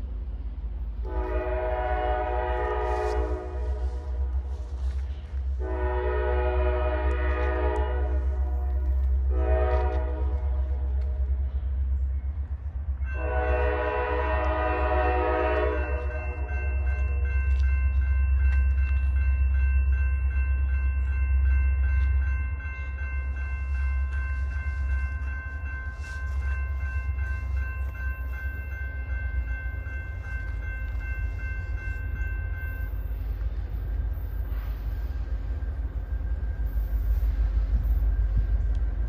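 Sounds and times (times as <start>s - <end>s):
train rumbling past: 0.0s - 39.0s
crossing bell ringing: 5.6s - 39.0s.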